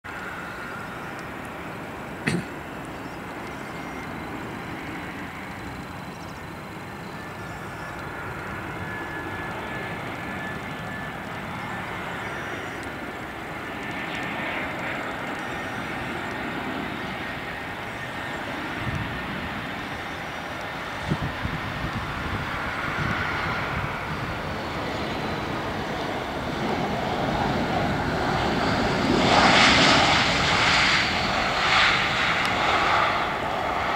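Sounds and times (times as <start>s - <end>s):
jet engines roaring: 0.1s - 33.9s.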